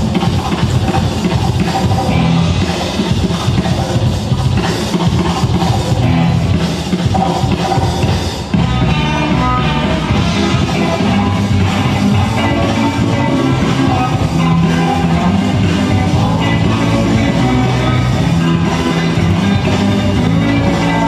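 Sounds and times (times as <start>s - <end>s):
loud music with drum beat: 0.0s - 21.0s.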